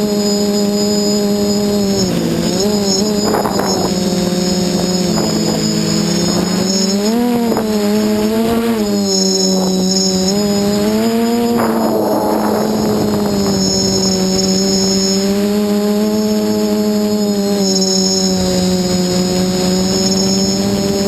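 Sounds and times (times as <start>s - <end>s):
drone motors droning with high whine: 0.0s - 21.0s.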